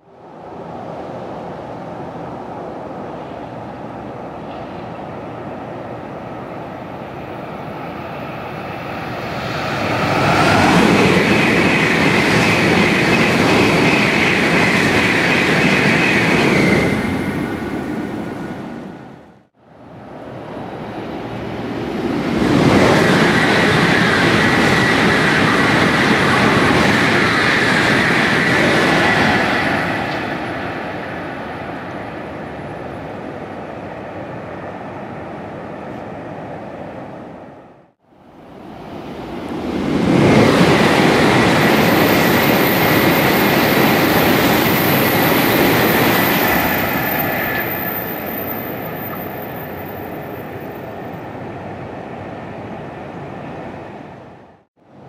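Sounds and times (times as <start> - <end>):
bullet train passing at high speed: 0.0 - 55.0.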